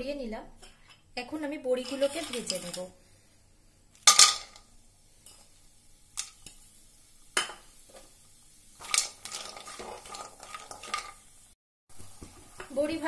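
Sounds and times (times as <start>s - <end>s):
dumplings sizzling in oil: 1.5s - 13.0s.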